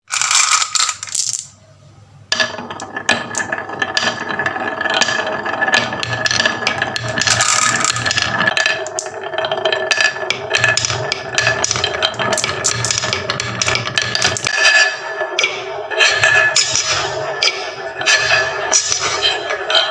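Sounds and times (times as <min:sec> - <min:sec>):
marbles rattling down marble run: 0:00.0 - 0:01.5, 0:02.3 - 0:19.9.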